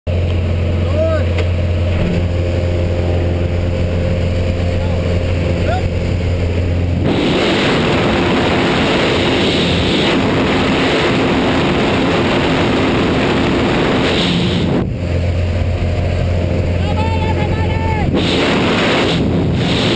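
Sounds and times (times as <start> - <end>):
plane engine droning in cabin: 0.1 - 19.9
rushing slipstream wind: 1.8 - 19.9.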